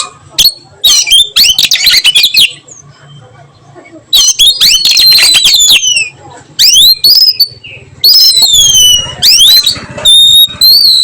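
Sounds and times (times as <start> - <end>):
bird singing whistled phrases: 0.4 - 2.6, 4.1 - 11.0.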